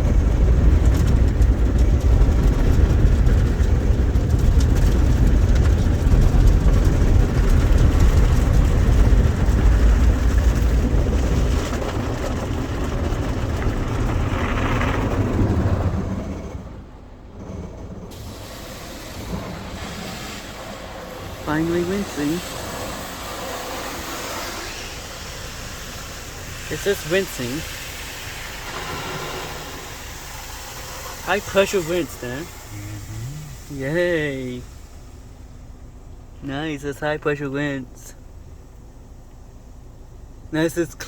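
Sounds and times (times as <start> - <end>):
car wash machinery rumble: 0.0 - 41.0.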